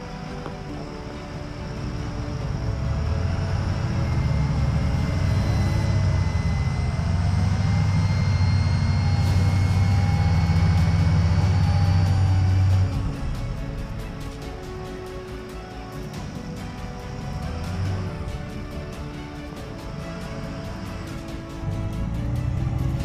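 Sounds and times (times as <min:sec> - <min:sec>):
faint engine whine: 0:00.0 - 0:23.0
music: 0:00.0 - 0:23.0
tractor diesel engine drone: 0:00.0 - 0:23.0.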